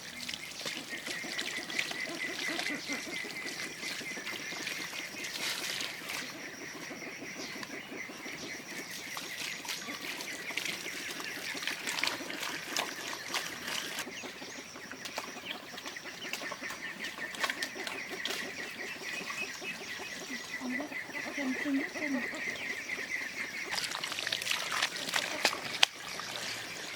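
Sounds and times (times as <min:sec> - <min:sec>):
birds calling: 0:00.0 - 0:26.9.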